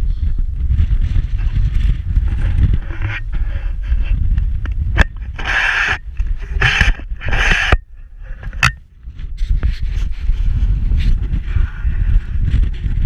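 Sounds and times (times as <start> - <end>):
hissing wind gusts: 0.0 - 13.0
wind buffeting microphone: 0.0 - 13.0.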